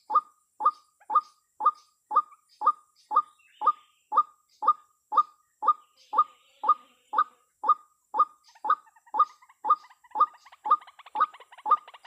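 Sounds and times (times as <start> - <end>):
waterhen calling kwak: 0.0 - 12.0.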